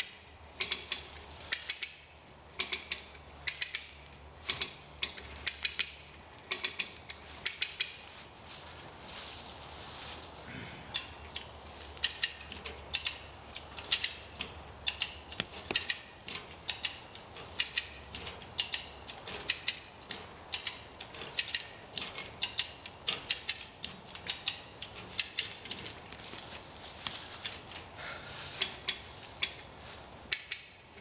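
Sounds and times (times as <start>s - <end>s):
hand winch ratchet clicks: 0.0s - 8.0s, 10.9s - 26.3s, 28.6s - 29.7s, 30.3s - 31.0s.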